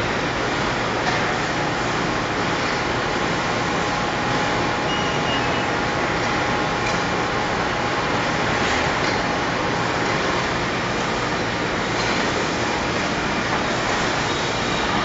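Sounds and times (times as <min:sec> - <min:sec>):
machinery and ventilation rush: 0:00.0 - 0:15.0.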